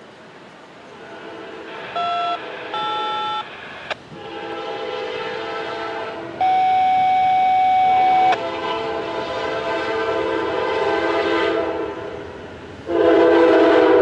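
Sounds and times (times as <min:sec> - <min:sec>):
passing train noise: 0:00.0 - 0:14.0
train air horn blasts: 0:00.9 - 0:14.0.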